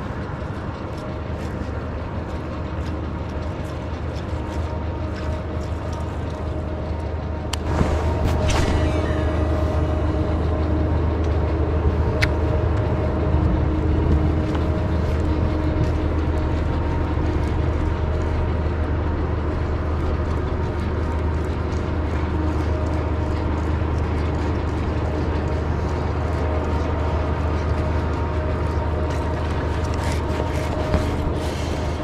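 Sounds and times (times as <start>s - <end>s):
faint droning hum: 0.0s - 32.0s
low mechanical rumble: 0.0s - 32.0s.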